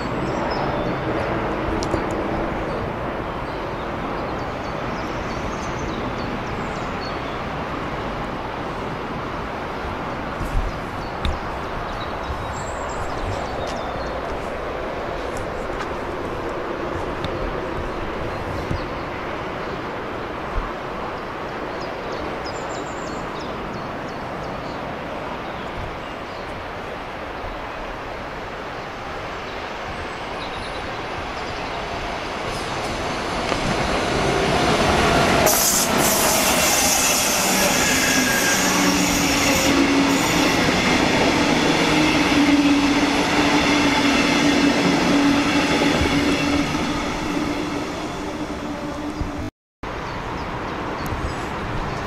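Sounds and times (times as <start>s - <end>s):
train rolling noise: 0.0s - 22.4s, 23.4s - 49.5s.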